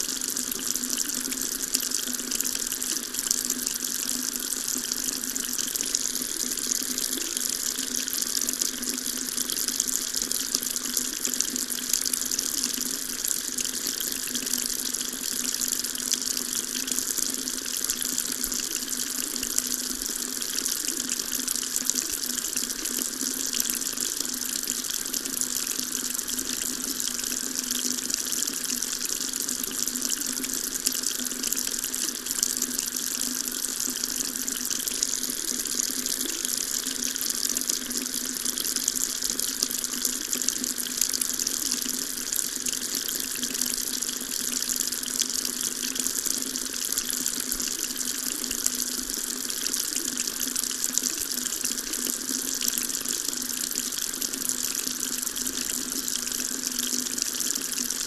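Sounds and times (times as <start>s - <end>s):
water tap running: 0.0s - 58.0s.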